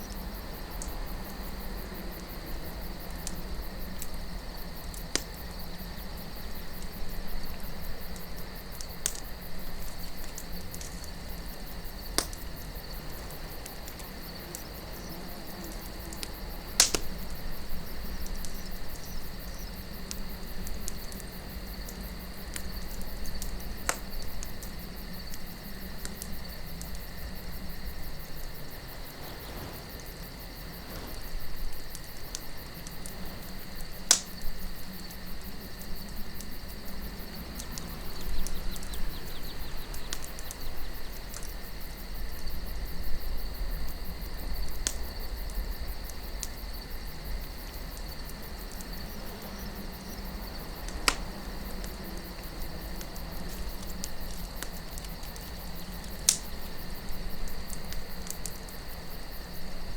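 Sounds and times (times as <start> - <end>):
low wind rumble: 0.0 - 58.1
campfire crackling: 0.0 - 59.9
night insects chirring: 0.0 - 59.9.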